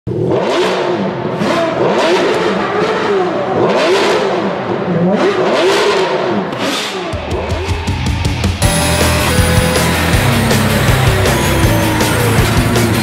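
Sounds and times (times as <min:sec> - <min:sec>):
racing car engines revving: 0:00.1 - 0:13.0.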